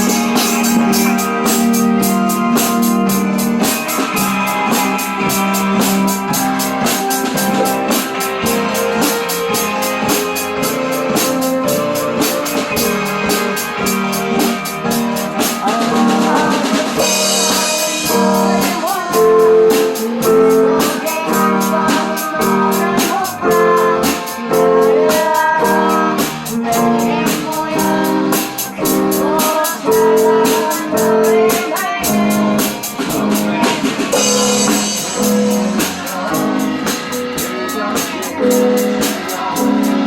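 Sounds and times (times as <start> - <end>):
pop-rock band playing: 0.0 - 40.0.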